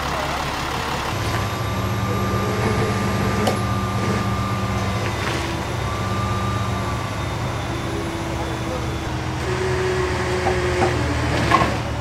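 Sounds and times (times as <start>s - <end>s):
thin steady whine: 0.0s - 11.0s
heavy vehicle engine idling: 0.0s - 12.0s.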